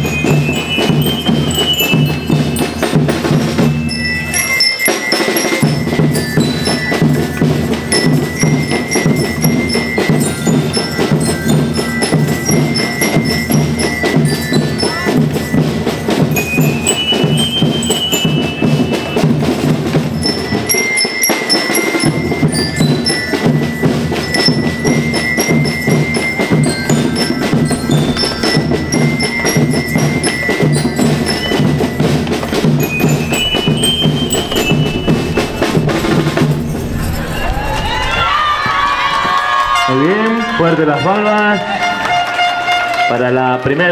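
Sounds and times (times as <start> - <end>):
fast drum beat: 0.0 - 38.0
bell lyre melody: 0.0 - 43.0.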